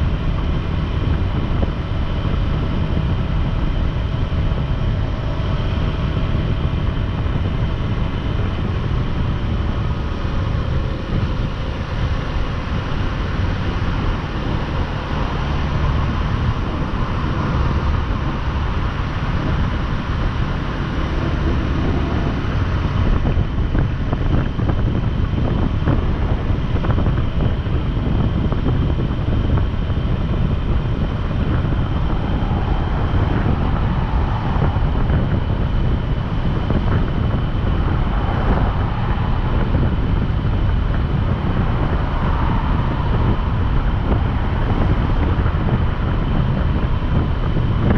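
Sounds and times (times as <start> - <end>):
motorcycle engine rumble: 0.0 - 47.9
road noise: 0.0 - 47.9
wind buffeting microphone: 0.0 - 47.9.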